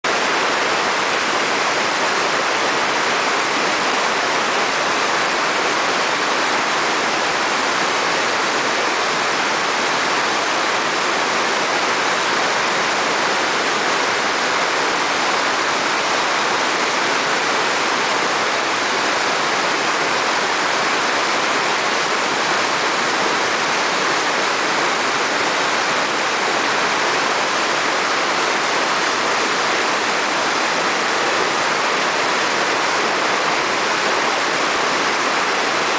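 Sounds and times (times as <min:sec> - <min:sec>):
whitewater rushing over rocks: 0:00.1 - 0:35.9.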